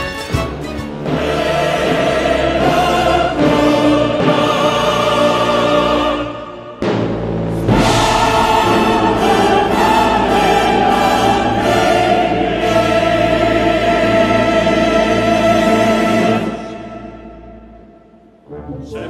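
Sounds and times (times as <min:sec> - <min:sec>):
dramatic orchestra and choir music: 0:00.0 - 0:19.0.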